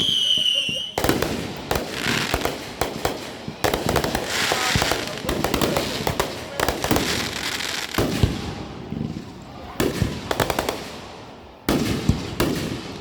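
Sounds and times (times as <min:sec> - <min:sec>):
fireworks bangs and crackling: 0:00.0 - 0:13.0
rumble after fireworks: 0:00.0 - 0:13.0.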